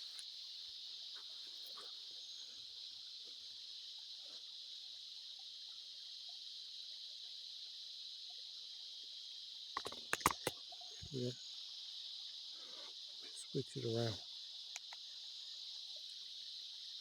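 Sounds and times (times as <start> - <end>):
crickets and insects buzzing: 0.0 - 17.0.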